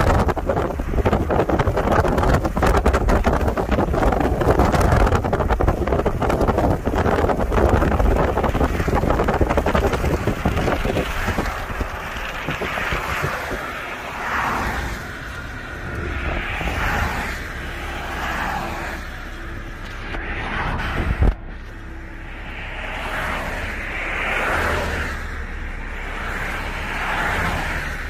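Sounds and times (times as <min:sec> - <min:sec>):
car driving on road: 0:00.0 - 0:28.0
wind buffeting microphone: 0:00.0 - 0:28.0.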